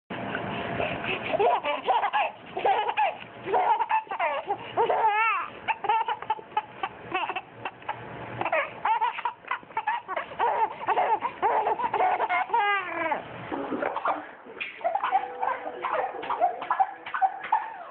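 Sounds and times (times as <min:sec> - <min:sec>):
baby laughing: 0:01.0 - 0:17.9.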